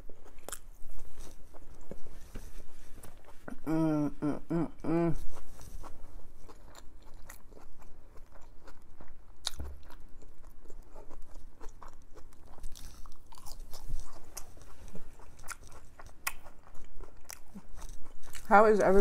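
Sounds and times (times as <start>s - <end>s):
crunching crisp french fries: 0.0s - 3.4s, 5.2s - 19.0s.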